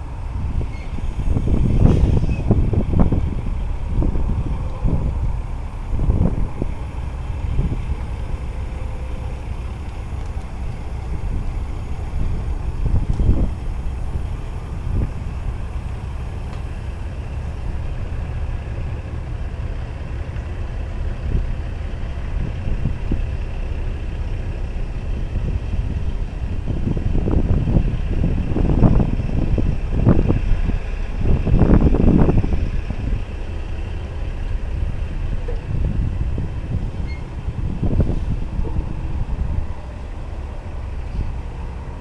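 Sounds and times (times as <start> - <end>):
diesel truck engine rumbling: 0.0 - 42.0
uneven gusts of noise: 0.0 - 42.0.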